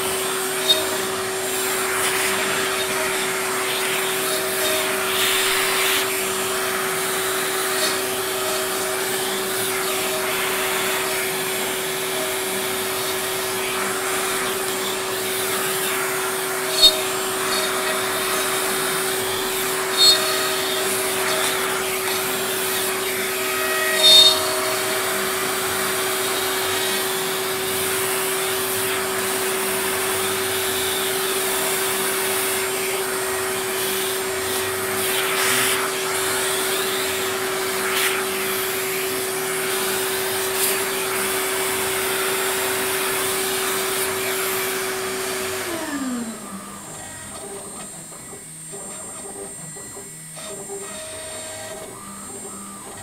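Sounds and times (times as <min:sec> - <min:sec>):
spindle humming: 0:00.0 - 0:53.0
vacuum hose running: 0:00.0 - 0:53.0.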